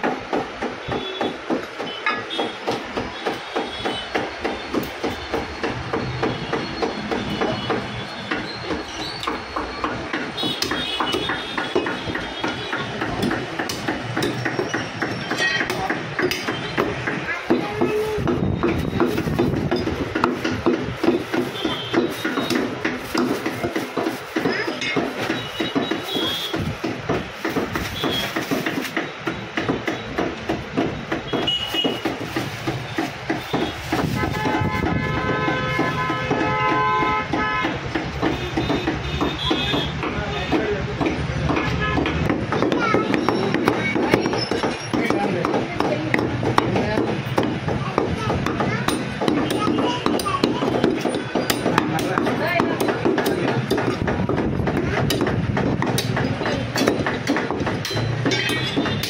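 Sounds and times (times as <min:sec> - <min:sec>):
cleaver chopping meat on wood: 0:00.0 - 0:59.0.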